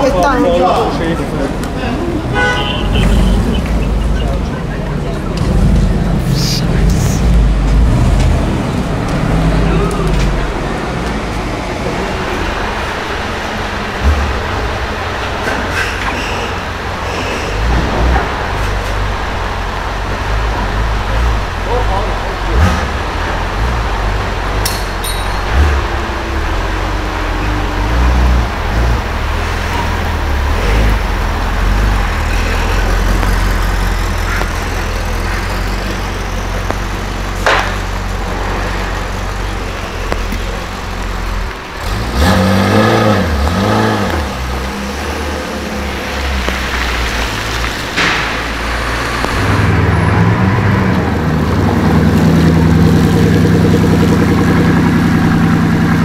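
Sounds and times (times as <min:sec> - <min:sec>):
deep engine rumble: 0:00.0 - 0:56.0
engine revving: 0:00.7 - 0:56.0.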